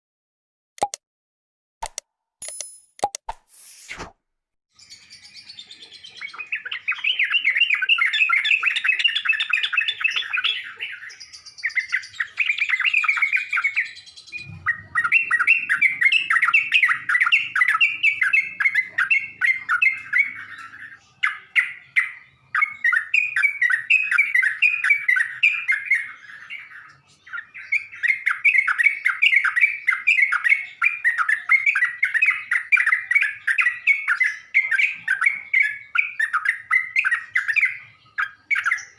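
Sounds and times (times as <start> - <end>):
bulbul song chattering: 4.8 - 38.9.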